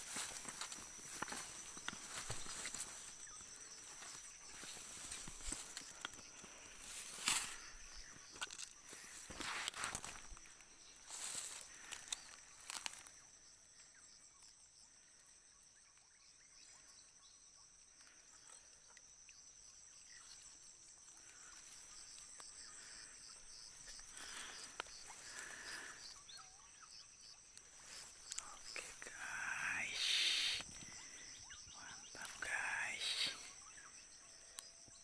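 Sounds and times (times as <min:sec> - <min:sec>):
crickets trilling: 0:00.0 - 0:35.0
faint chirps: 0:00.0 - 0:35.0.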